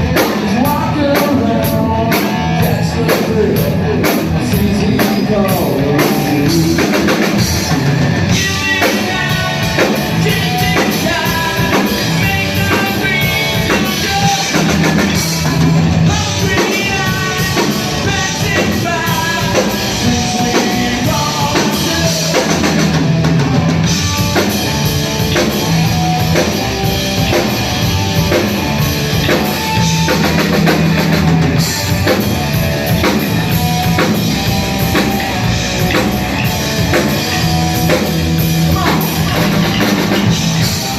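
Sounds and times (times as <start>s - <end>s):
rock band playing loudly: 0.0s - 40.9s.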